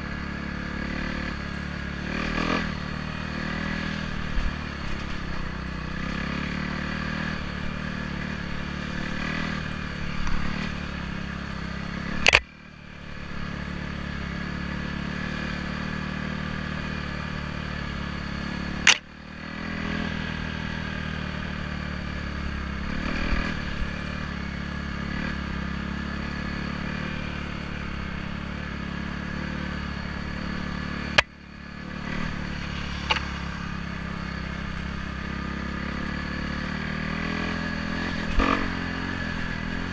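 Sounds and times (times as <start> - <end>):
trail bike engine running: 0.0 - 39.9.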